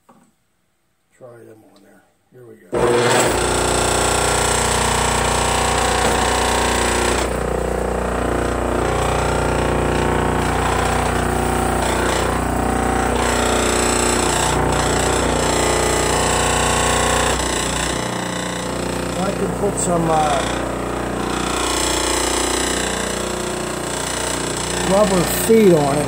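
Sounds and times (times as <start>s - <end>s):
disc sander running and vibrating: 2.8s - 26.0s.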